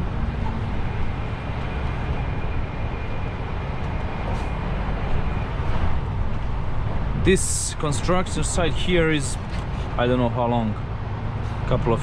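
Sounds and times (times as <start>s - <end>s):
truck engine running: 0.0s - 12.0s
tyre and road noise: 0.0s - 12.0s.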